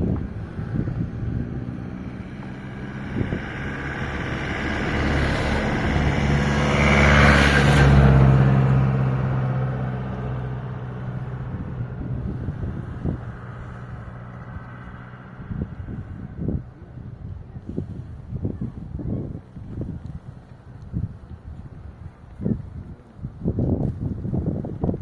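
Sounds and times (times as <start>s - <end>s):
vehicle engine passing by: 0.0s - 20.2s.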